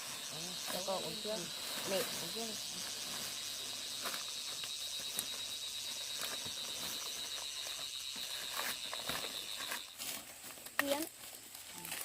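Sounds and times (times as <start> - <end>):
insects buzzing shrilly: 0.0 - 12.0.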